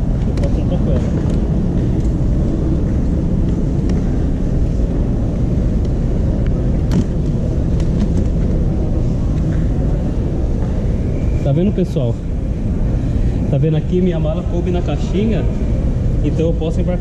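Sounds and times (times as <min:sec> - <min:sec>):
low rumble of terminal hall: 0:00.0 - 0:17.0.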